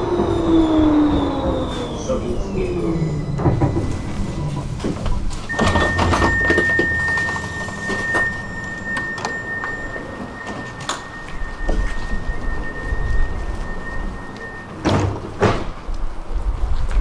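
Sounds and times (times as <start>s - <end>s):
steady high-pitched tone: 0.0s - 14.8s
tram clunks and rattles: 0.0s - 17.0s.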